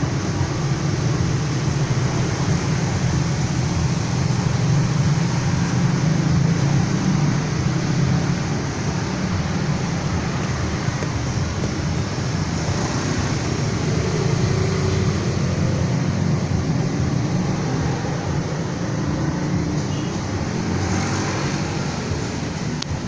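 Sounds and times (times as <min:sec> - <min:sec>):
low traffic rumble: 0:00.0 - 0:23.0.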